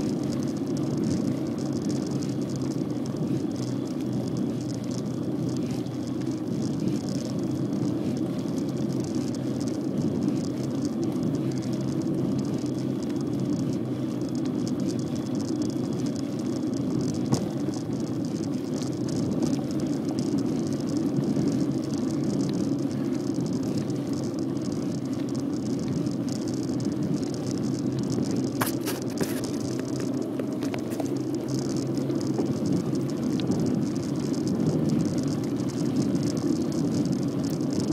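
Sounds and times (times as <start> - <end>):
bicycle tyres on asphalt: 0.0 - 37.9.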